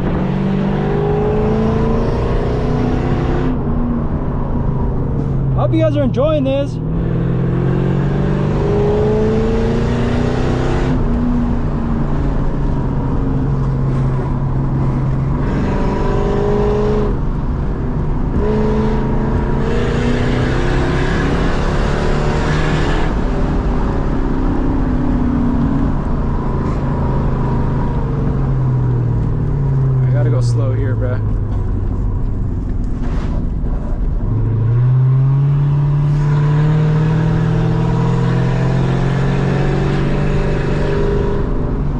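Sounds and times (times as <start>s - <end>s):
car engine revving loud exhaust: 0.0s - 32.0s, 33.0s - 41.9s.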